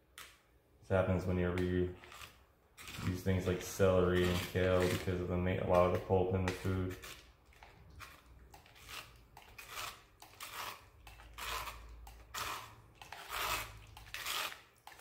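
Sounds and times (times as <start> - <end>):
knife scraping wet vegetable pulp: 1.2 - 15.0.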